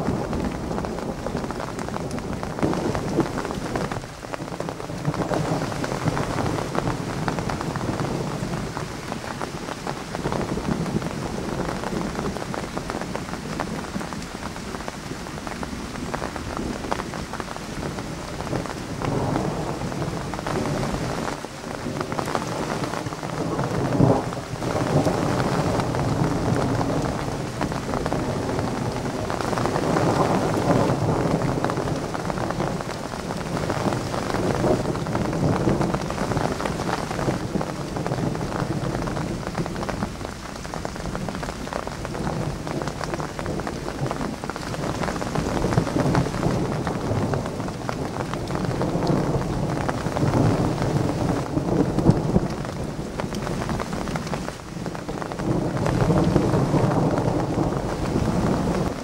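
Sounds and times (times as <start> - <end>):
steady rain falling: 0.0 - 59.0
thunder rumbling: 0.0 - 59.0.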